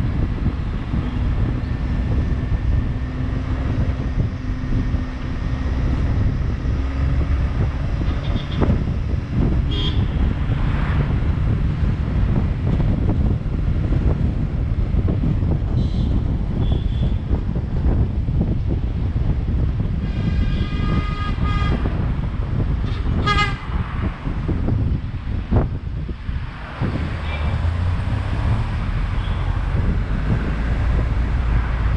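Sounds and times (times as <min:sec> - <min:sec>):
low engine tone: 0:00.0 - 0:31.9
wind rumbling on microphone: 0:00.0 - 0:31.9.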